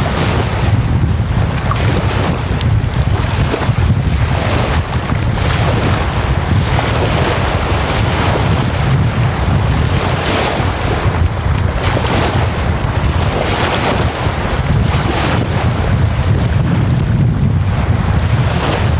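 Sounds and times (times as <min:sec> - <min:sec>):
lake waves washing up shore: 0:00.0 - 0:18.9
wind buffeting microphone: 0:00.0 - 0:18.9.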